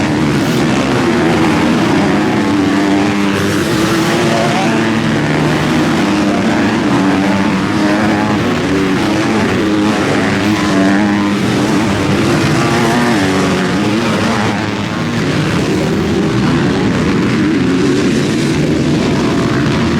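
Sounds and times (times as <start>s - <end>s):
motocross bikes revving: 0.0s - 19.9s.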